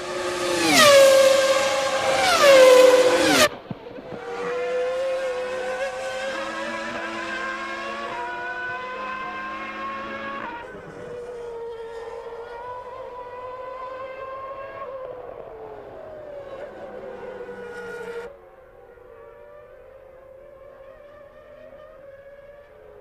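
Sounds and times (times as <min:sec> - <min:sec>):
racing car engine at high revs: 0:00.0 - 0:18.3, 0:19.1 - 0:23.0.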